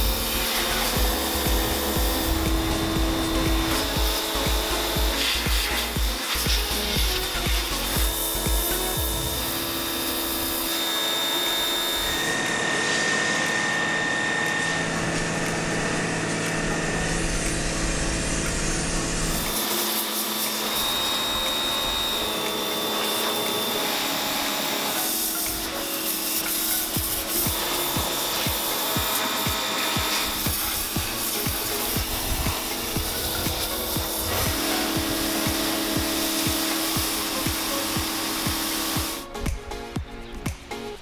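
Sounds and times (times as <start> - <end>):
pressure washer spraying water: 0.0 - 40.9
background music with held notes: 0.0 - 41.0.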